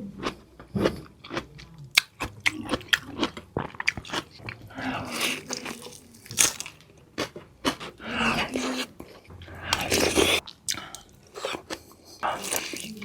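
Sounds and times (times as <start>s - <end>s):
person crunching food: 0.2s - 9.0s, 9.7s - 13.0s
soft chewing: 0.2s - 13.0s.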